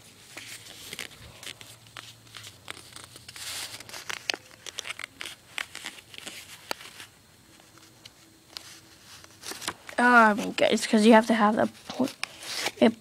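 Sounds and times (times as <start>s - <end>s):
paper card crinkling: 0.0s - 12.9s.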